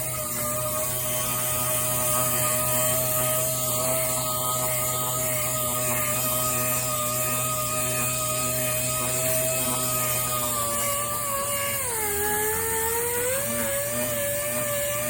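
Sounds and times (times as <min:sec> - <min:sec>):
power sander whining: 0:00.0 - 0:15.0.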